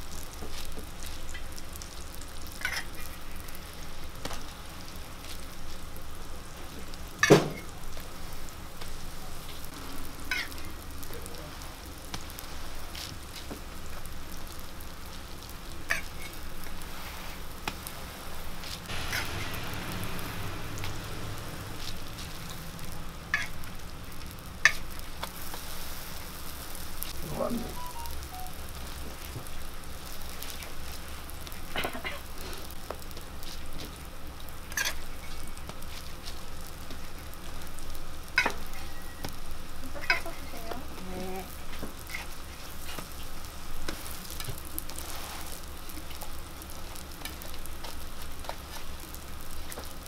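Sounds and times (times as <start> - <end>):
pancakes sizzling on griddle: 0.0 - 50.0.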